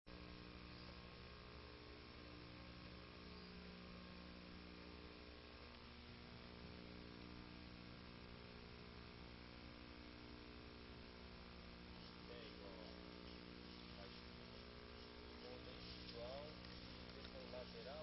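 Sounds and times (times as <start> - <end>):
faint mains hum: 0.1 - 18.0
tape hiss: 0.1 - 18.0.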